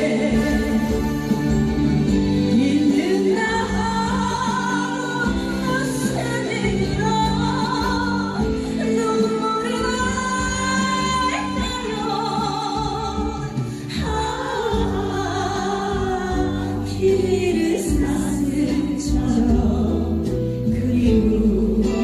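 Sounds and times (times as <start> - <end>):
instrumental accompaniment: 0.0 - 22.0
woman singing a slow song: 0.0 - 22.0.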